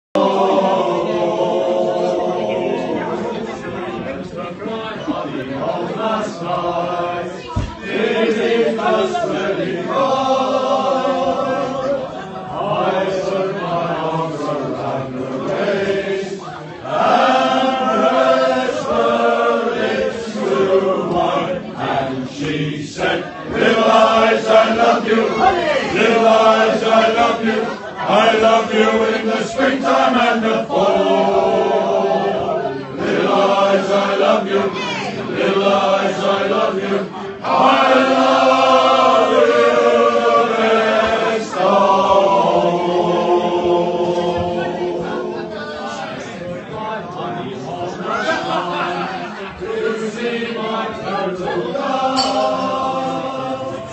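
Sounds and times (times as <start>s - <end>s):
crowd singing together: 0.0s - 53.9s.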